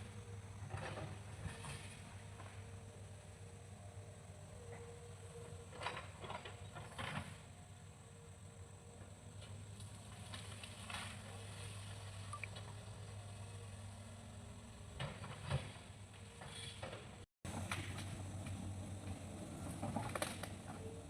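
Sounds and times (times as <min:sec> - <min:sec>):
excavator engine droning: 0:00.0 - 0:21.0.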